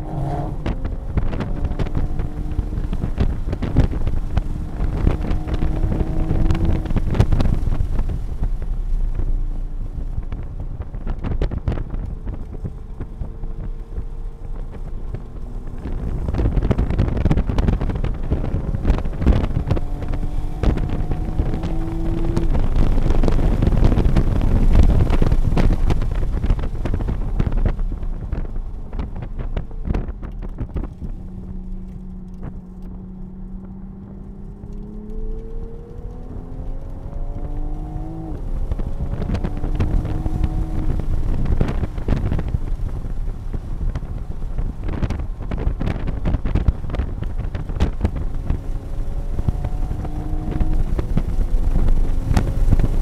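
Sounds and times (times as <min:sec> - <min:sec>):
car engine at high revs: 0:00.0 - 0:53.0
wind and road noise: 0:00.0 - 0:53.0.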